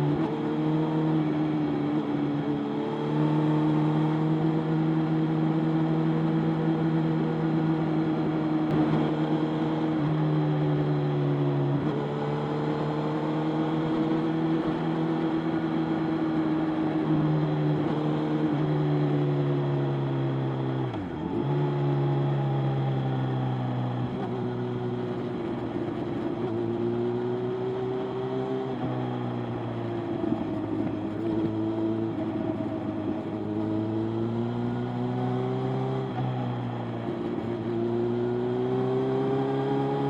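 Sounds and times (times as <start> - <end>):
wind and road noise: 0.0 - 40.0.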